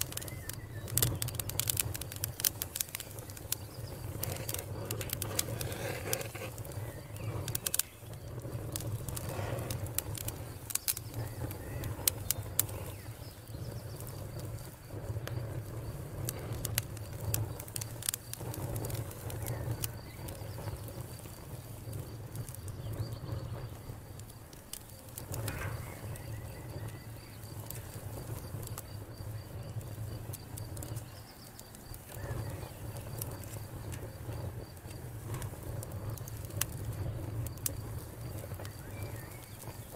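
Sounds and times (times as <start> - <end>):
campfire crackling: 0.0 - 39.9
sharp pops from fire: 0.0 - 39.9.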